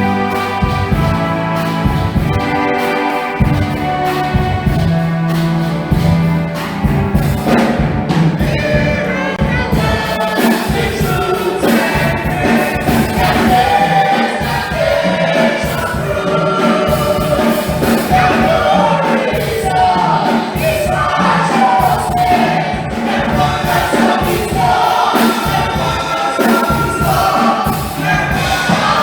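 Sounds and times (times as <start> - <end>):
choir singing gospel: 0.0 - 29.0
instrumental backing with beat: 0.0 - 29.0.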